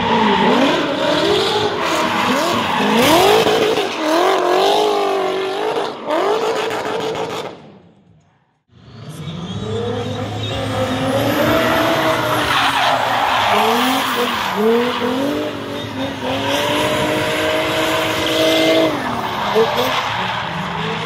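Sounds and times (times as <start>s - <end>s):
tyres skidding and squealing: 0.0s - 7.6s, 8.2s - 21.0s
car engine revving: 0.0s - 7.8s, 8.7s - 21.0s.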